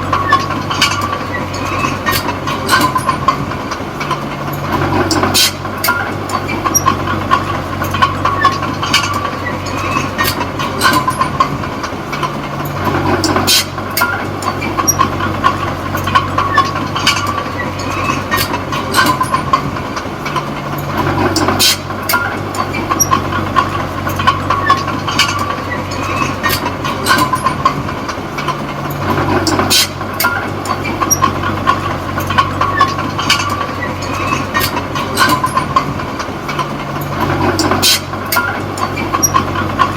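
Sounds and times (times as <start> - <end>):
bulldozer diesel engine running: 0.0 - 39.9
steel tracks clanking: 0.0 - 39.9.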